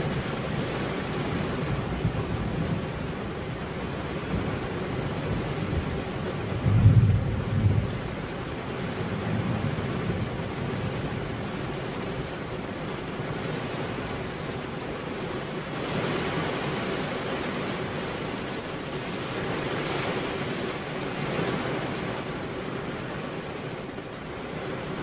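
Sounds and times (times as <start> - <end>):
rain on window glass: 0.0 - 25.0.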